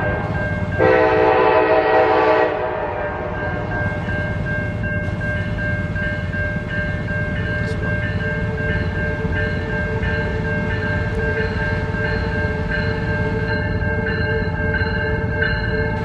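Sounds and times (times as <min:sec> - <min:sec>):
train bell ringing: 0:00.0 - 0:16.0
train rumbling: 0:00.0 - 0:16.0.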